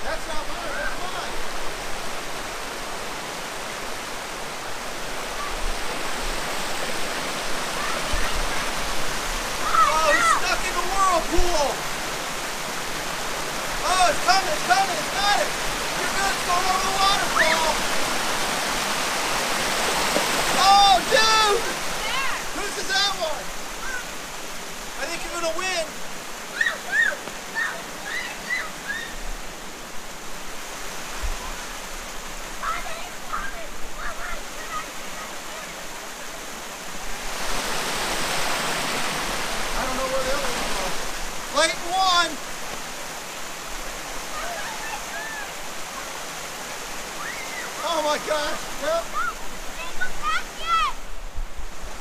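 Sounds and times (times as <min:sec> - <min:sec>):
creek water rushing over rocks: 0:00.0 - 0:52.0.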